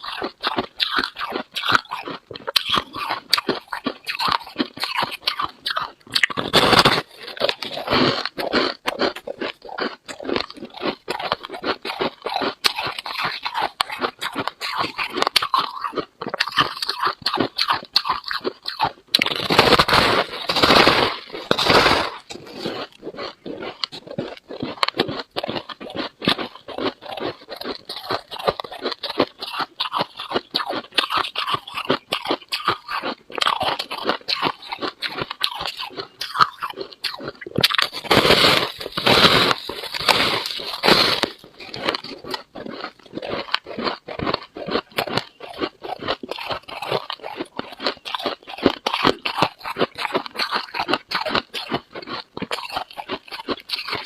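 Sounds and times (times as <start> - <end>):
frost being chewed crunchily: 0.0 - 54.0.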